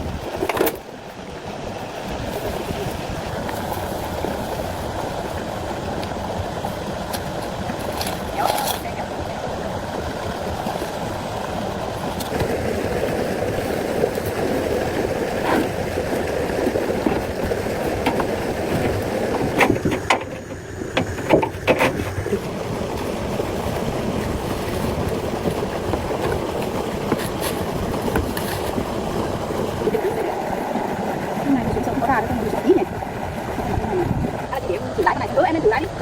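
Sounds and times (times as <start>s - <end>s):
vehicle engine rumbling: 0.0s - 35.8s.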